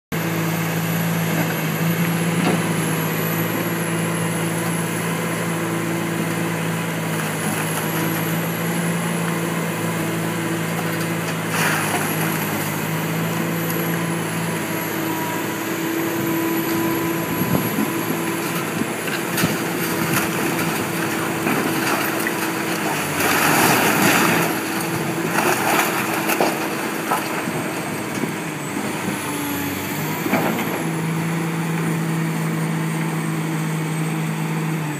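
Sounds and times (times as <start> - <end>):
excavator diesel engine running: 0.2 - 34.9.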